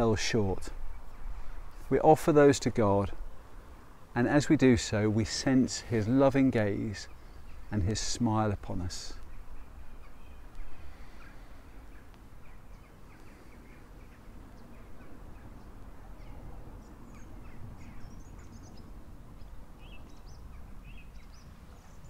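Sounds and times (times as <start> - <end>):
birds chirping and singing: 0.0 - 2.0, 5.2 - 22.0.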